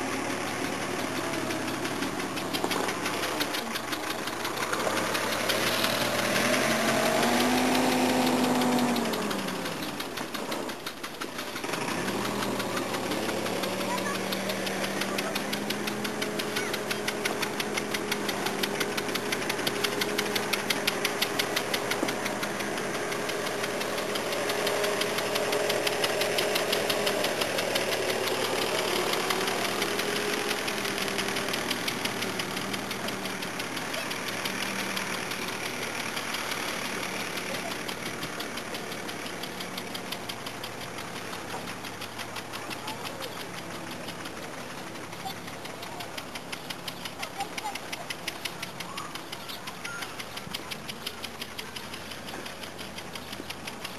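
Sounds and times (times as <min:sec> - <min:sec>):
engine running with knocking: 0:00.0 - 0:53.9.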